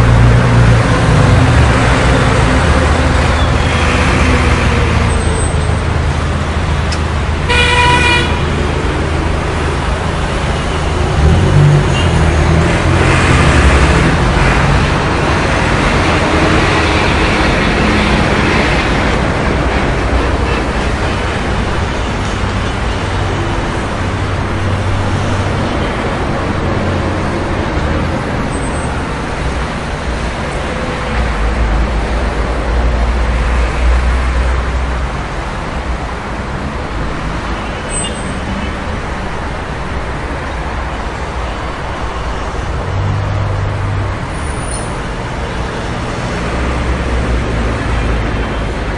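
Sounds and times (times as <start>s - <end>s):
buses rumbling past: 0.0s - 48.9s
street traffic engines and tyres: 0.0s - 48.9s.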